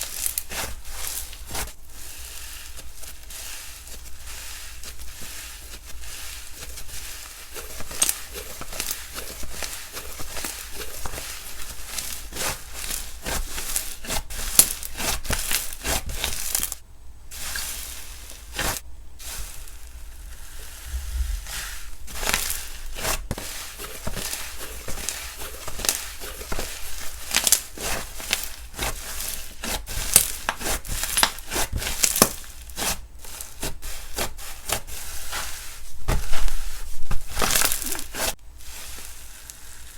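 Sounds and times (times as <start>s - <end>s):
hands squeezing slime: 0.0s - 16.8s, 17.4s - 35.8s, 36.4s - 39.9s.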